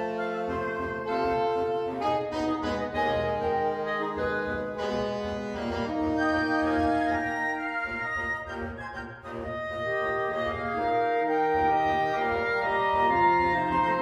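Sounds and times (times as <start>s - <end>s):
woodwind ensemble playing: 0.0s - 14.0s.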